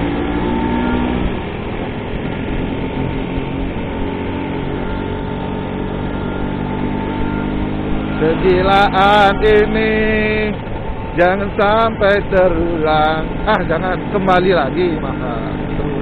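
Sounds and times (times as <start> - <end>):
road noise: 0.0 - 16.0
scooter engine running: 0.0 - 16.0.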